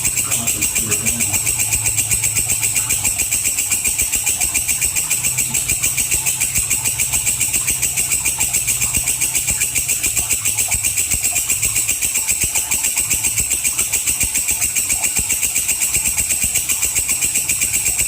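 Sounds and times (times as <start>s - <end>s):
katydid buzzing chirr: 0.0s - 18.0s.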